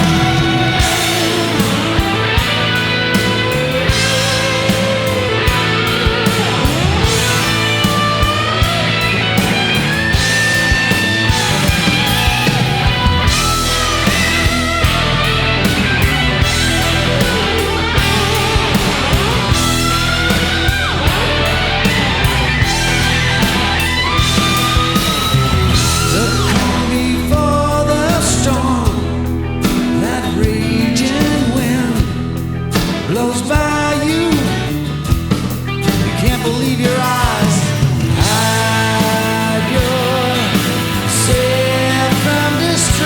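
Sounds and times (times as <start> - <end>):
instrumental rock music: 0.0 - 43.0.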